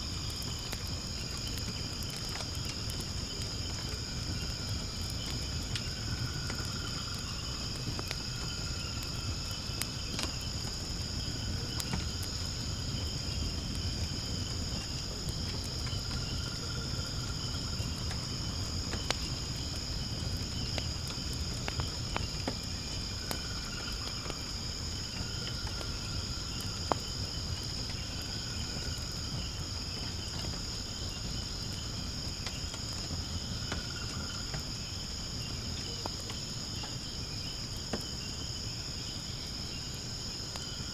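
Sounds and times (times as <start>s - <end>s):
crickets chirping: 0.0s - 40.9s
low insect trill: 0.0s - 40.9s
wood fire crackling: 0.0s - 40.9s.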